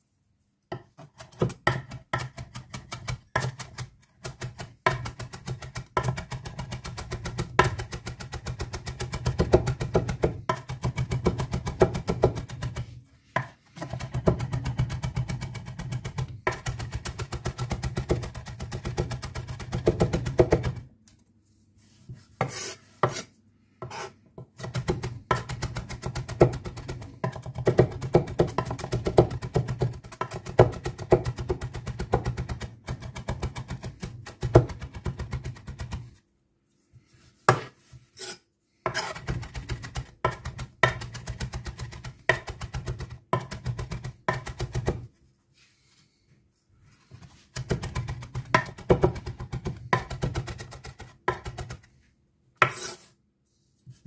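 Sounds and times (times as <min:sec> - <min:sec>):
knife chopping on cutting board: 0:00.7 - 0:20.9, 0:22.4 - 0:36.1, 0:37.4 - 0:45.1, 0:47.5 - 0:51.8, 0:52.6 - 0:53.1.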